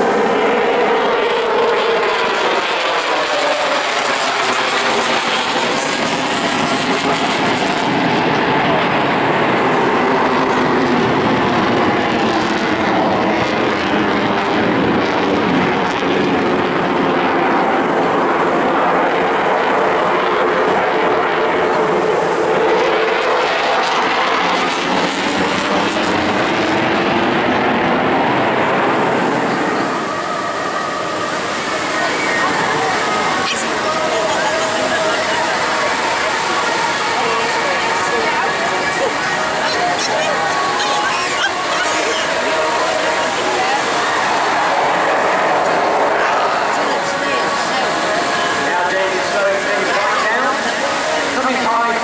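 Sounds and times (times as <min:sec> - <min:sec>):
fighter jet engine roar: 0:00.0 - 0:52.0.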